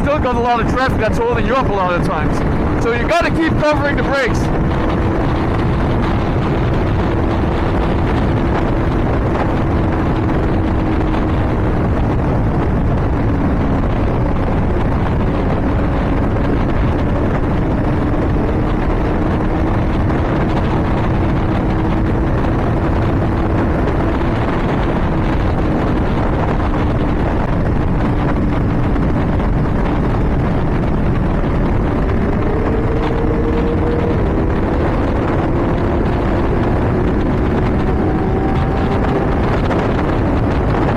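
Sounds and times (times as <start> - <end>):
wind rush: 0.0 - 40.9
motorcycle engine at high revs: 3.5 - 40.9.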